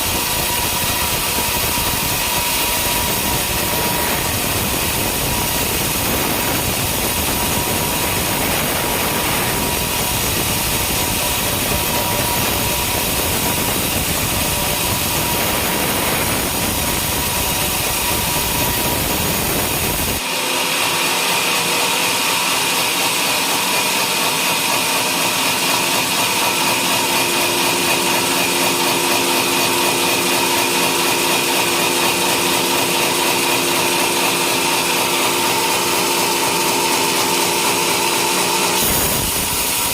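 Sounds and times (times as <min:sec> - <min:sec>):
sawmill sawing through log: 0:00.0 - 0:39.9.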